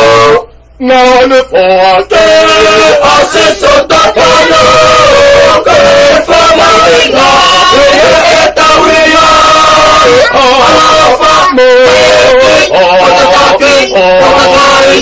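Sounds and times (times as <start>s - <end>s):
family singing a hymn: 0.0s - 15.0s.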